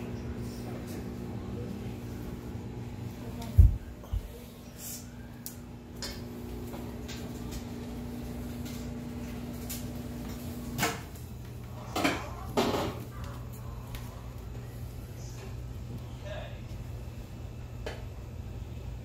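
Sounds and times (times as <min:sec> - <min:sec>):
appliance hum: 0:00.0 - 0:19.0.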